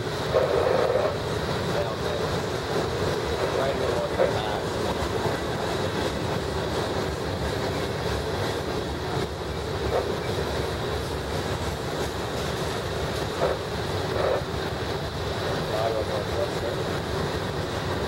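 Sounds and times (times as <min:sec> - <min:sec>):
freight train wheels on rail: 0:00.0 - 0:18.0.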